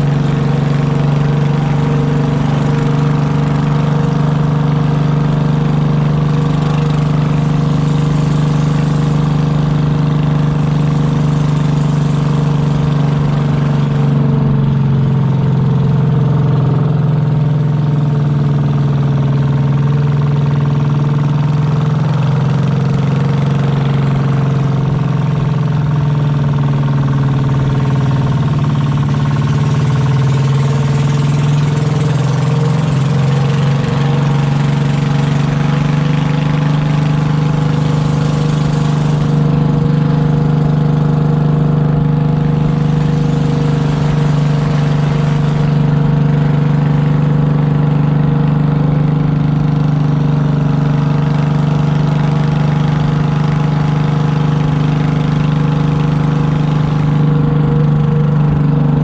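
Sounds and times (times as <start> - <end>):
boat engine droning: 0.0 - 59.0
water rushing along hull: 0.0 - 59.0.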